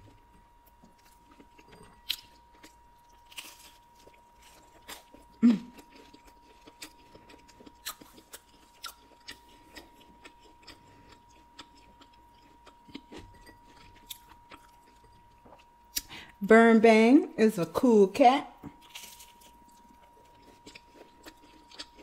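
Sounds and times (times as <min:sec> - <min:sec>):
chewing with mouth closed: 0:00.7 - 0:16.2, 0:18.8 - 0:22.0.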